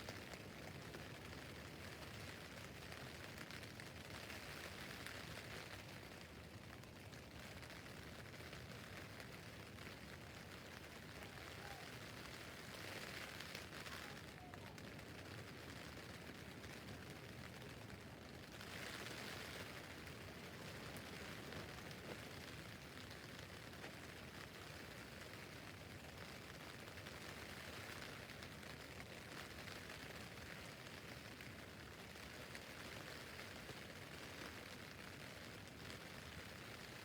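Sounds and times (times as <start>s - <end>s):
rain falling on a tent roof: 0.0s - 37.0s.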